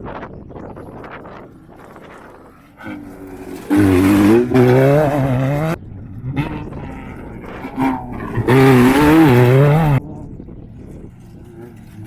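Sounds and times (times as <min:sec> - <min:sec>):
race vehicle engine at full throttle: 0:00.9 - 0:12.0.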